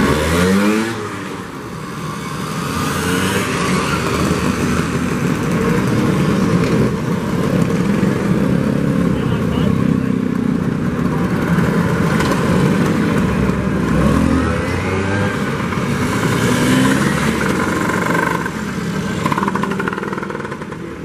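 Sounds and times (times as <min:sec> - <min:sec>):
scooters riding past: 0:00.0 - 0:21.0.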